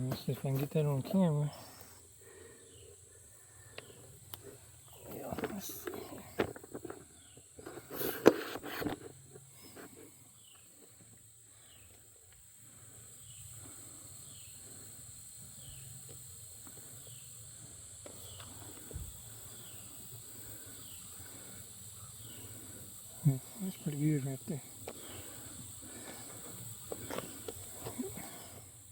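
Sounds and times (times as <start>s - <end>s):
high insect drone: 0.0s - 28.9s.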